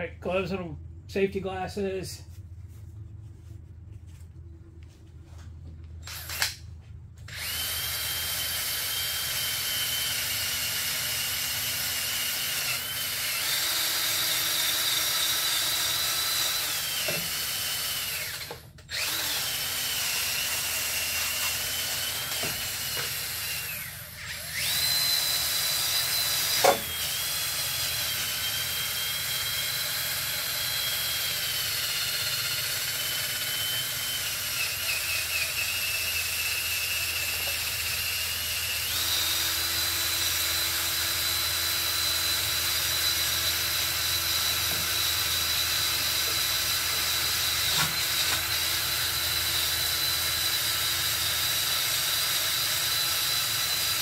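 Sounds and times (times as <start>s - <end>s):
drill wire brush whining on metal: 6.0s - 6.6s, 7.2s - 54.0s.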